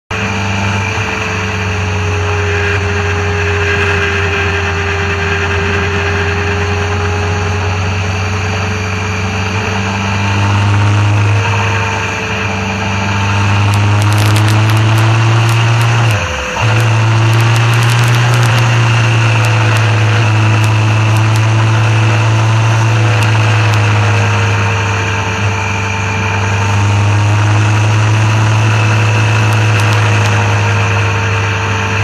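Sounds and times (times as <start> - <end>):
motorcycle engine running: 0.1 - 32.0
wind and road rush: 0.1 - 32.0.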